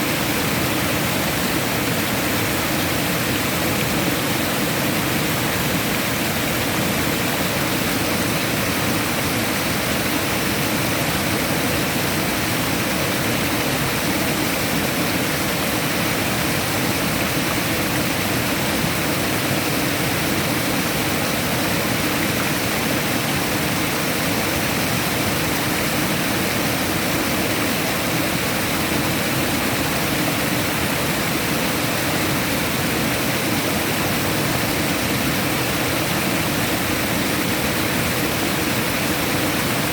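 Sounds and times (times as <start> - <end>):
rushing water roar: 0.0 - 39.9.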